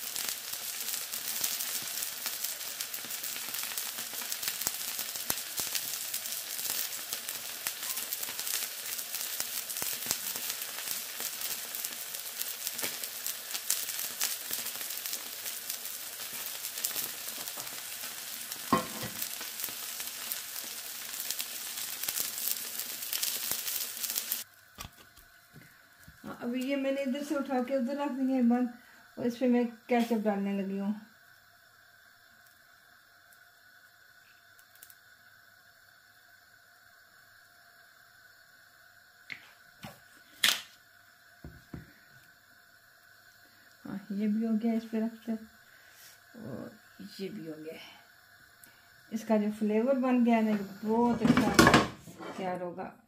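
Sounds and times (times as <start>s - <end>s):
burger patties sizzling in a pan: 0.0s - 52.8s.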